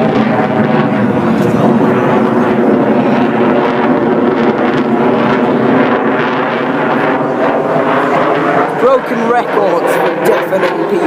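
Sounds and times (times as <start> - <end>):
jet aircraft engine roar: 0.0 - 11.0.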